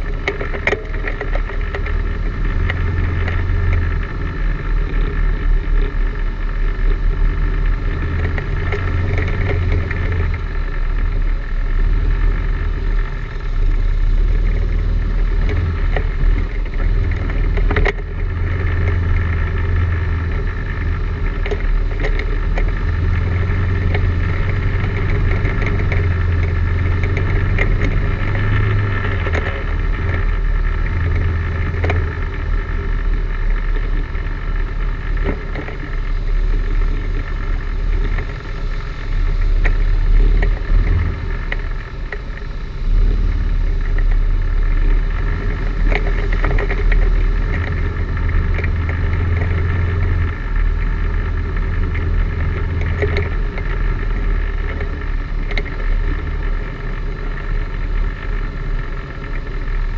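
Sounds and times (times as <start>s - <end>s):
knocks and rattles over rocks: 0.0s - 6.1s, 6.8s - 42.3s, 43.8s - 59.9s
quad bike engine droning: 0.0s - 59.9s.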